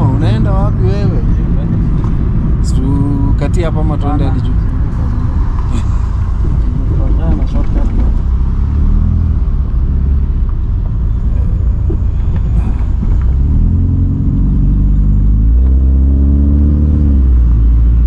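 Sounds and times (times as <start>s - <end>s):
car engine accelerating: 0.0s - 18.0s
low road rumble: 0.0s - 18.0s.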